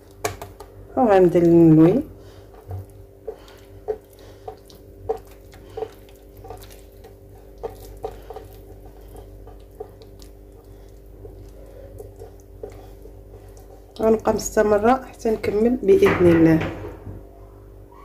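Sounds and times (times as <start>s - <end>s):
hands squishing dough in bowl: 0.0s - 16.7s
low steady hum: 0.0s - 18.0s.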